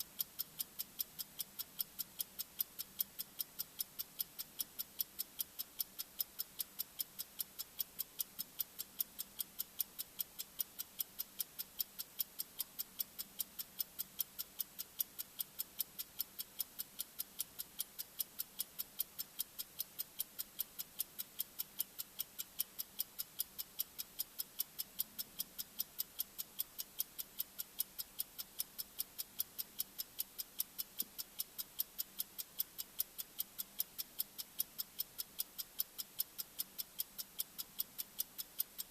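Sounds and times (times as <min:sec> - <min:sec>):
sharp high-pitched timer ticks: 0:00.0 - 0:38.9.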